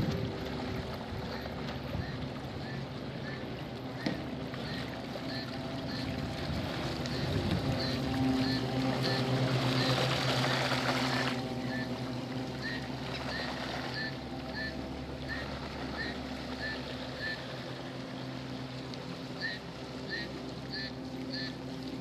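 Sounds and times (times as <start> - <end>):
model boat motor hum: 0.0 - 22.0
water rushing: 0.0 - 22.0.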